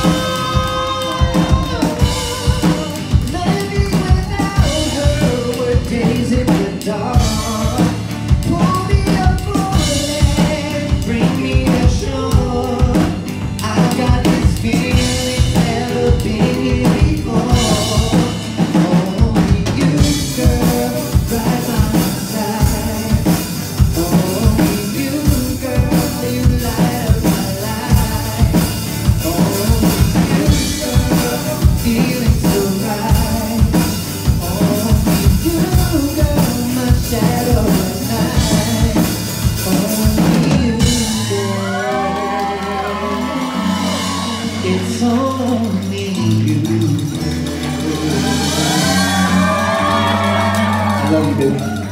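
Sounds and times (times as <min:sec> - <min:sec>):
acoustic and electric guitars: 0:00.0 - 0:51.9
drum kit beat: 0:00.0 - 0:51.9
live band playing: 0:00.0 - 0:51.9.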